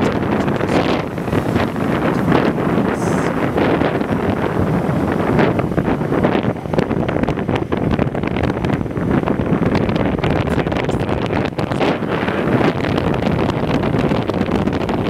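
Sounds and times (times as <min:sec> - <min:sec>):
vehicle and road noise: 0:00.0 - 0:15.0
wind buffeting microphone: 0:00.0 - 0:15.0.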